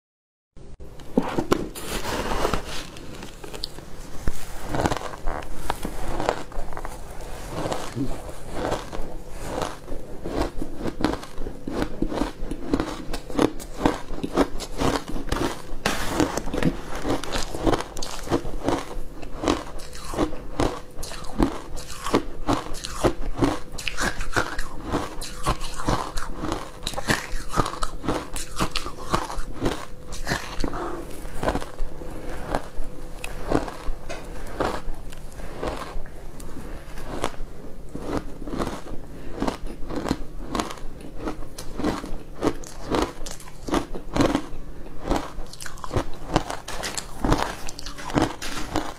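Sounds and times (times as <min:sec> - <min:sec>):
chewing and crunching ice: 0:03.1 - 0:48.9.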